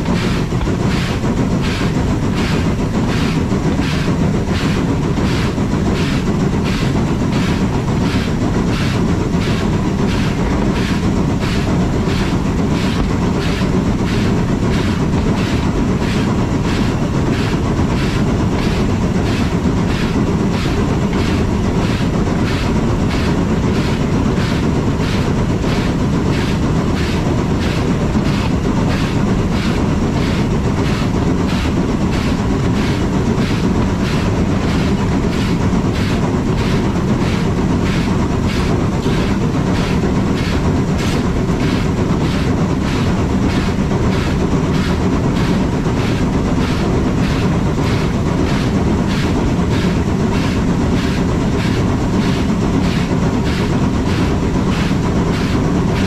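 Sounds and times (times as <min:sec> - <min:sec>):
steam train rumbling on track: 0:00.0 - 0:56.0.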